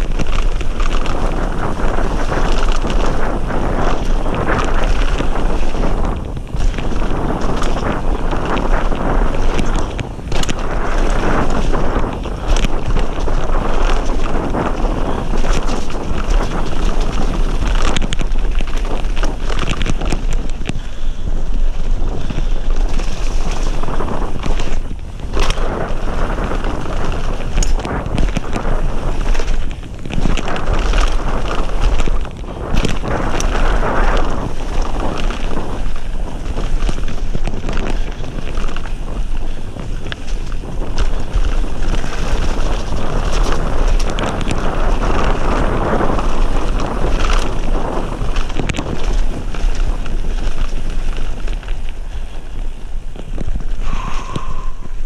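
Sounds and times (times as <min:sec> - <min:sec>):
bike knocks and rattles: 0:00.0 - 0:55.0
tyres rumbling on gravel trail: 0:00.0 - 0:55.0
wind buffeting microphone: 0:00.0 - 0:55.0.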